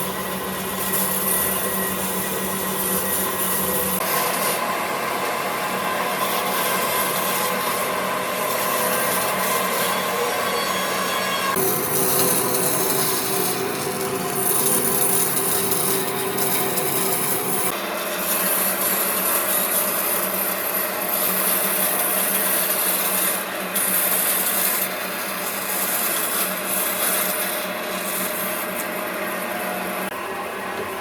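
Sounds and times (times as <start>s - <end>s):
abrasive tool rasping wood: 0.0s - 30.2s.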